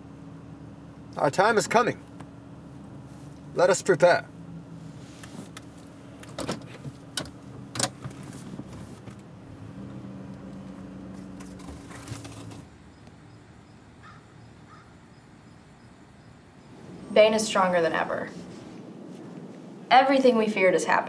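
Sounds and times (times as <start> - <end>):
car engine hum from inside: 0.0 - 13.5, 16.6 - 20.0.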